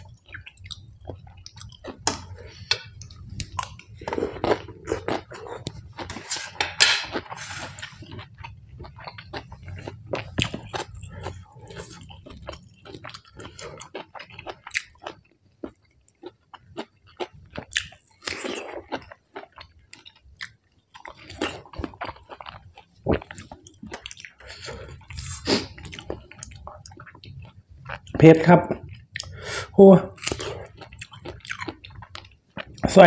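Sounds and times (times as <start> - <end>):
crunchy chewing and biting: 3.4 - 28.1, 30.2 - 32.8.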